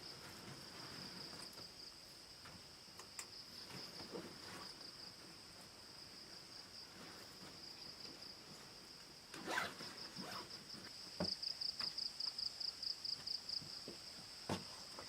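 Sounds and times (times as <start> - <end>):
insects chirring: 0.1 - 15.0.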